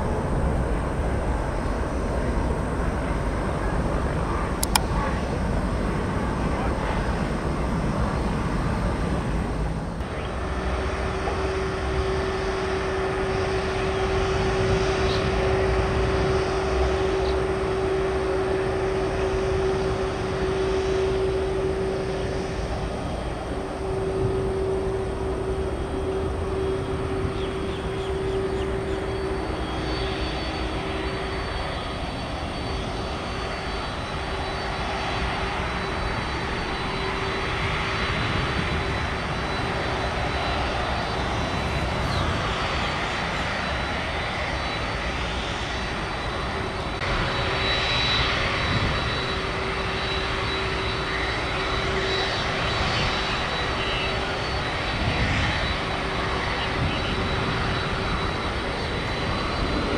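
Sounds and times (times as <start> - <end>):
jet engines running: 0.0 - 59.9
steady humming tone: 0.0 - 59.9.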